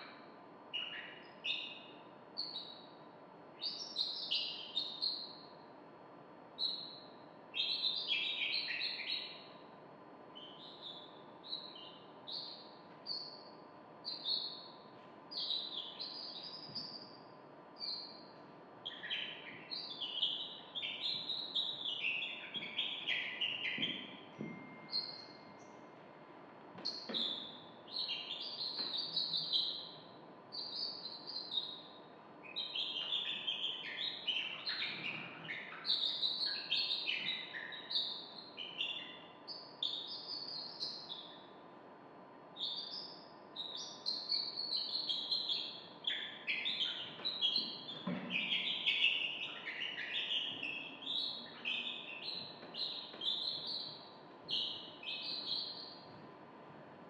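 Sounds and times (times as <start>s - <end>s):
bird-like chirps and whistles: 0.0s - 3.0s, 3.6s - 5.6s, 6.6s - 9.6s, 10.4s - 17.2s, 17.8s - 25.8s, 26.8s - 41.6s, 42.6s - 56.0s.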